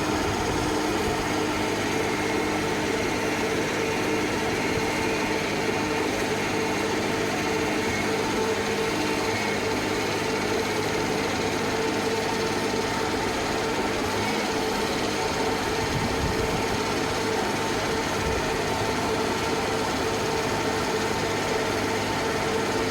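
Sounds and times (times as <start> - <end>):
baler machine humming: 0.0 - 22.9.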